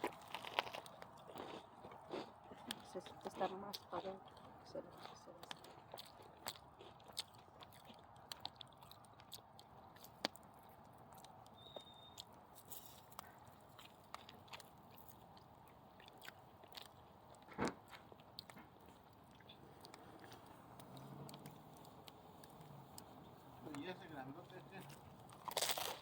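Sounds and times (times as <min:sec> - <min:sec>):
bonfire crackling and popping: 0:00.0 - 0:04.7, 0:05.4 - 0:26.0.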